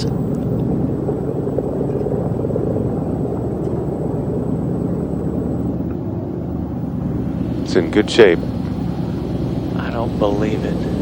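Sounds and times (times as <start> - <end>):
faint high whine: 0.0 - 11.0
machinery droning: 0.0 - 11.0.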